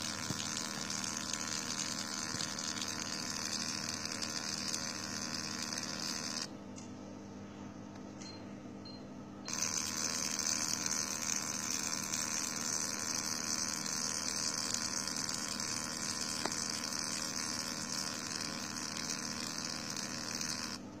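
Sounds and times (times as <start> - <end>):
laser machine hissing: 0.0 - 6.5, 9.5 - 20.8.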